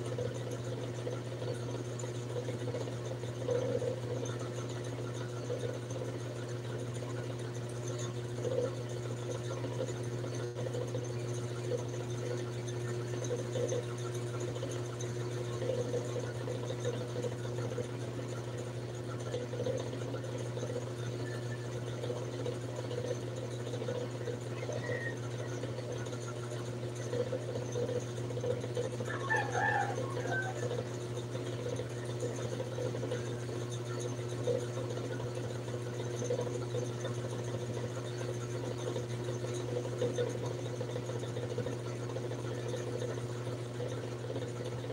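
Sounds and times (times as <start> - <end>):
small motor hum: 0.0 - 44.9.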